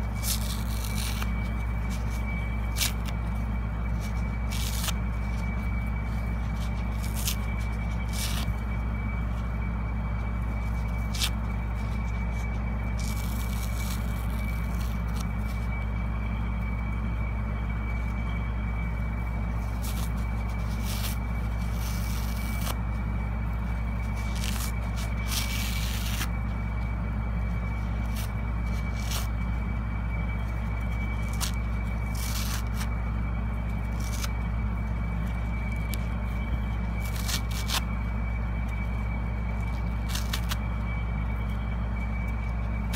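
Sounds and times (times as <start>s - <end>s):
faint high whine: 0.0s - 42.9s
steady low hum: 0.0s - 42.9s
wet sponge crackling: 0.0s - 42.9s.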